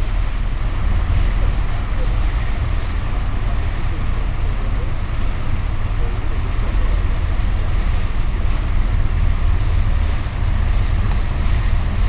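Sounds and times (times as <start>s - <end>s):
ferry engine deep rumble: 0.0s - 12.0s
wind and wake water rushing: 0.0s - 12.0s.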